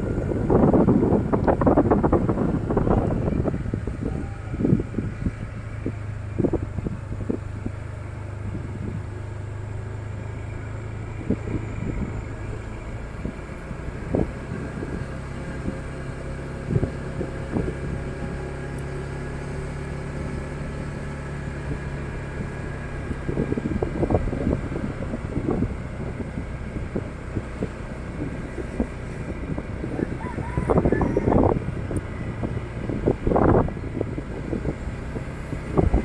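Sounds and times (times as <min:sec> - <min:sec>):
motorcycle engine running: 0:00.0 - 0:36.0
wind noise on microphone: 0:00.0 - 0:36.0.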